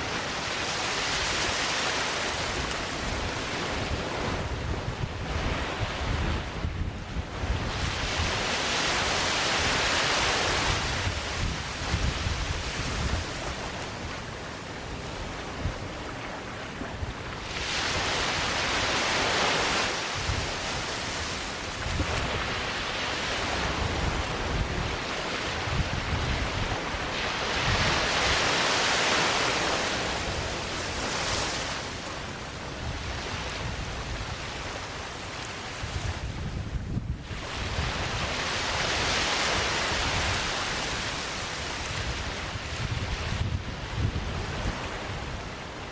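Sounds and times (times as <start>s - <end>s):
sea waves washing up a beach: 0.0s - 45.9s
wind rumble on microphone: 0.0s - 45.9s.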